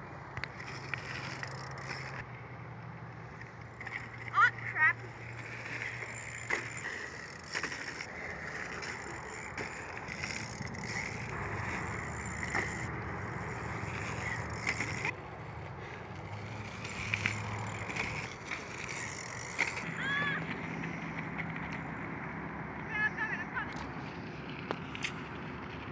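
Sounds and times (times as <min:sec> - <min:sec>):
bike tyres on loose dirt: 0:00.0 - 0:02.3, 0:03.1 - 0:23.0
bike rattles and clunks: 0:00.3 - 0:02.4, 0:03.2 - 0:22.4.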